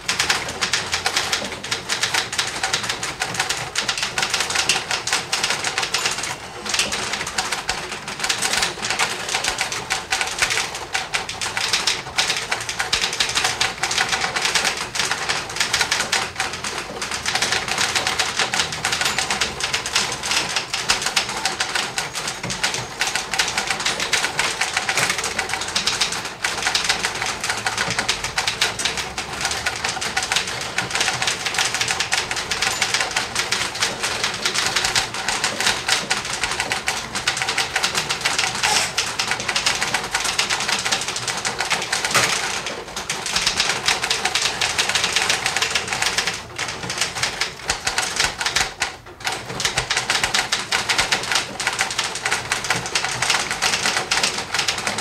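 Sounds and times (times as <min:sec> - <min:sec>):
typewriters clattering: 0:00.0 - 0:55.0.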